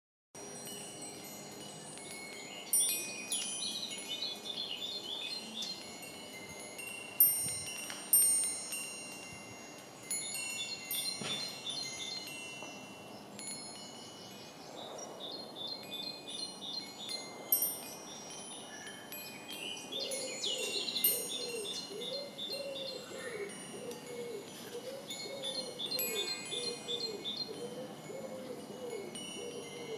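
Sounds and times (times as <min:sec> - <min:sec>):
wind chime ringing: 0:00.4 - 0:29.9.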